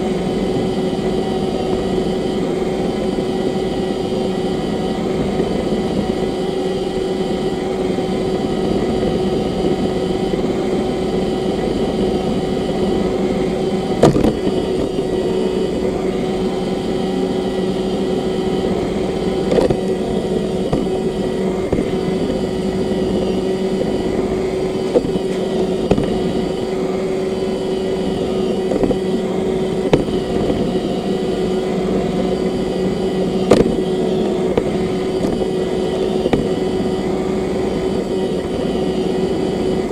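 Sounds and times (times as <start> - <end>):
robot vacuum motor hum: 0.0 - 39.9.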